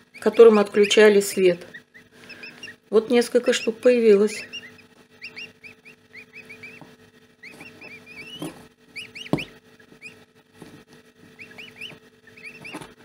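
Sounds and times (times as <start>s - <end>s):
faint steady hum: 0.0s - 13.0s
goslings peeping: 0.0s - 13.0s.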